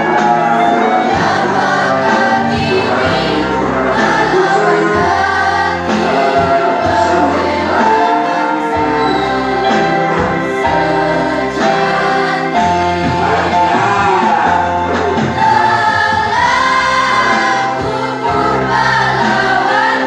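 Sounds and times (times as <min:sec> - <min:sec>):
girls' choir singing: 0:00.0 - 0:20.0.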